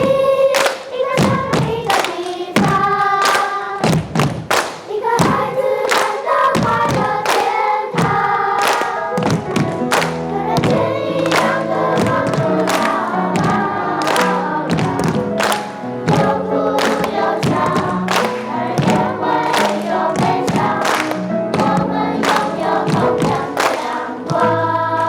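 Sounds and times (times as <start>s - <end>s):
choir singing: 0.0s - 3.8s, 4.9s - 25.0s.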